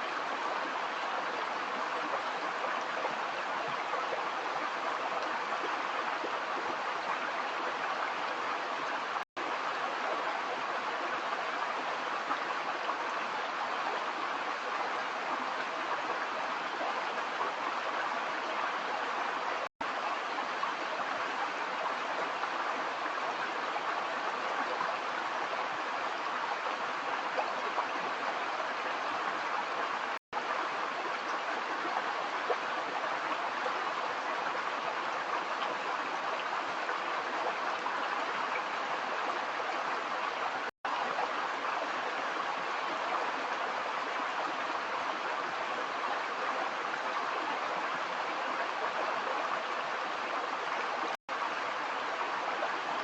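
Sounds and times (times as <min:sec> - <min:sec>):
stream water running over stones: 0:00.0 - 0:53.0.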